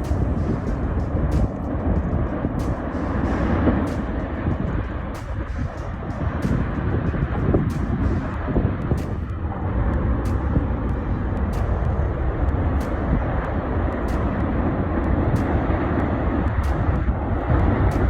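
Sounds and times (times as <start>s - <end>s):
low rumbling outdoor roar: 0.0s - 18.0s.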